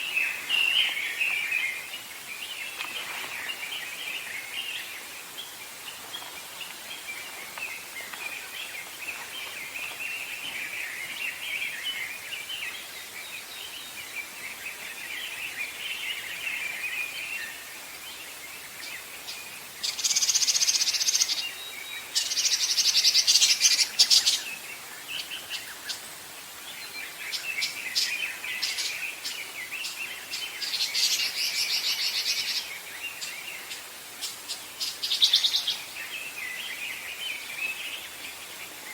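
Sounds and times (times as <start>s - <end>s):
songbirds twittering chorus: 0.0s - 38.9s.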